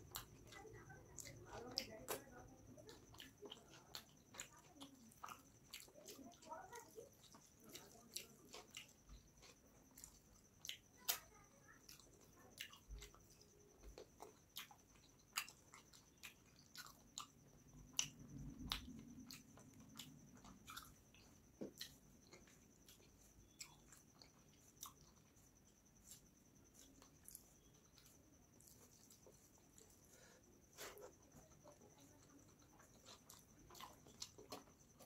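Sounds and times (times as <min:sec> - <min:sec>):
wet chewing and lip smacking: 0:00.0 - 0:35.0.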